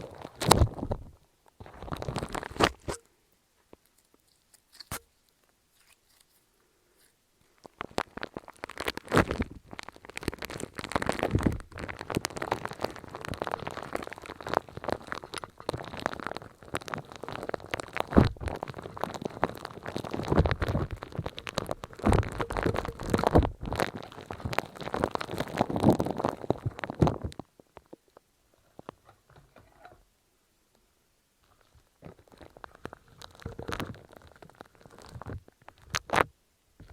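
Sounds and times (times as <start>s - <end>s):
crackling and squishing: 0.0s - 30.1s, 31.4s - 36.9s.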